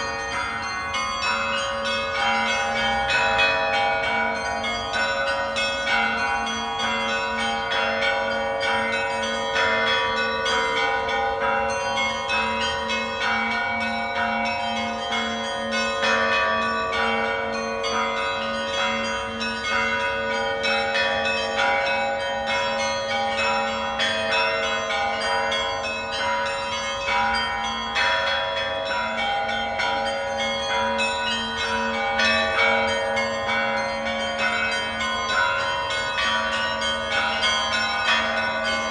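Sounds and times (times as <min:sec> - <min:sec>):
peal of church bells: 0:00.0 - 0:38.9.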